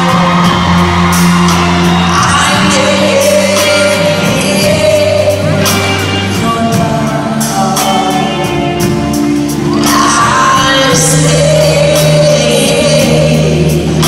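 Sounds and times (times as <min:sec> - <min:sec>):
man singing into a microphone: 0:00.0 - 0:01.0, 0:02.0 - 0:14.0
guitars: 0:00.0 - 0:14.0
live pop-rock band: 0:00.0 - 0:14.0.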